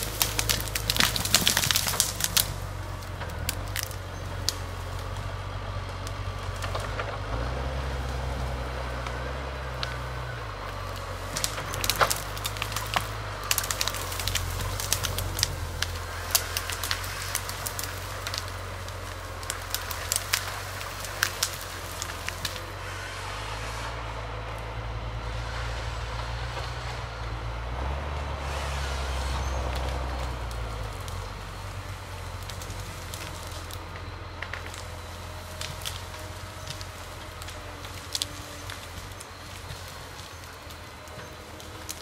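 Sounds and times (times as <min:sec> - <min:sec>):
branches cracking and snapping: 0:00.0 - 0:42.0
tractor diesel engine running: 0:00.0 - 0:42.0.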